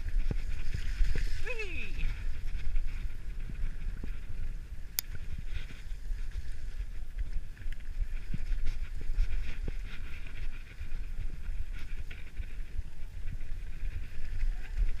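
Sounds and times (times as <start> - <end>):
bike tyres rumbling on dirt: 0.0 - 15.0.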